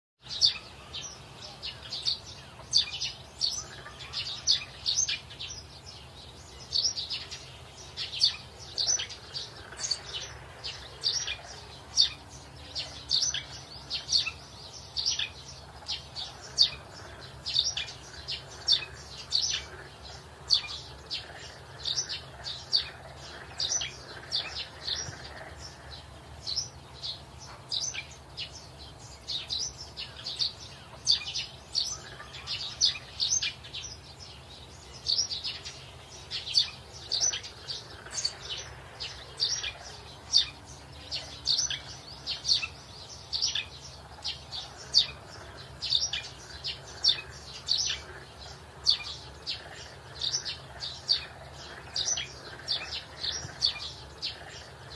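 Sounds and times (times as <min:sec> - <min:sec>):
birds chirping: 0:00.2 - 0:54.9.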